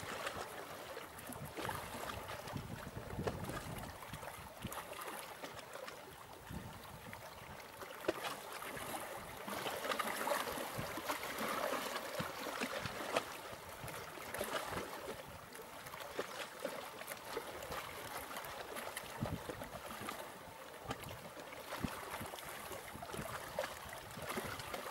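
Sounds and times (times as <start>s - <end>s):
waves splashing against rocks: 0.0s - 5.9s, 7.8s - 24.9s.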